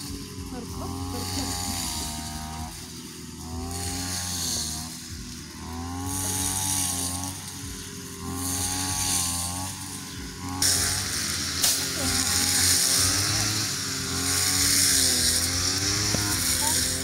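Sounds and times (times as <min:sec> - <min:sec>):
hissing rush: 0:00.0 - 0:17.0
small petrol engine under load: 0:00.0 - 0:17.0.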